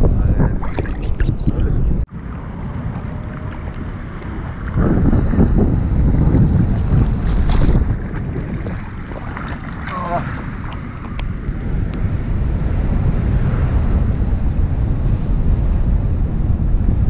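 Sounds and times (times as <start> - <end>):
wind buffeting microphone: 0.0 - 17.0
ocean surf: 2.1 - 17.0.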